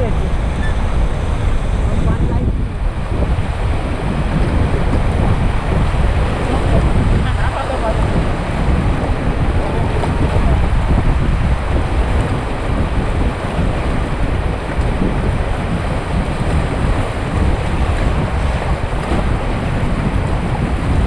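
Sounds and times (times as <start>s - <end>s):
white water roaring: 0.0s - 21.0s
wind buffeting microphone: 0.0s - 21.0s.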